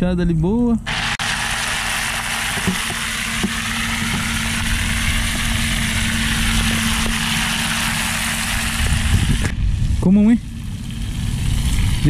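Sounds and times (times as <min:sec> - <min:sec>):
low steady hum: 0:00.0 - 0:12.0
fish sizzling in hot oil: 0:00.9 - 0:09.4, 0:10.5 - 0:12.0.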